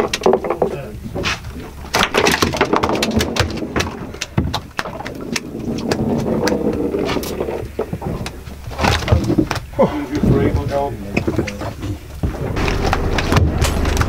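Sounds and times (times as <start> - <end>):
fish slapping on deck: 0.0 - 14.0.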